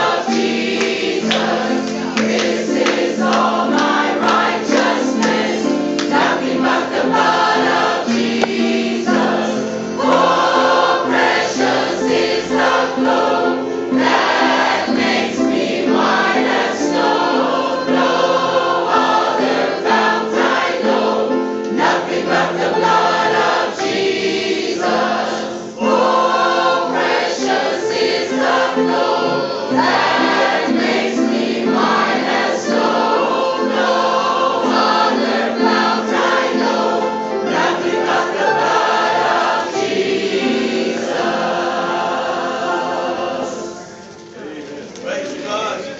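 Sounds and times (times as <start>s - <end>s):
choir singing gospel: 0.0s - 45.9s.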